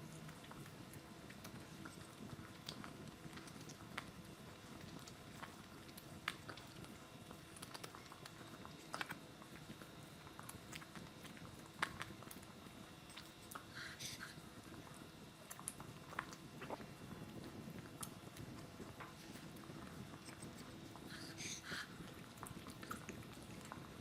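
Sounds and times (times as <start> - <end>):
chewing and biting: 0.2 - 13.7, 14.6 - 24.0.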